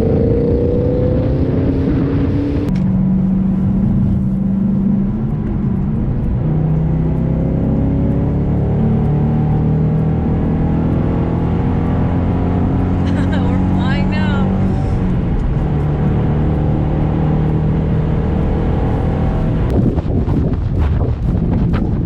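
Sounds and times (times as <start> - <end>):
car engine drone: 0.0 - 22.0
tyre and road noise: 0.0 - 22.0.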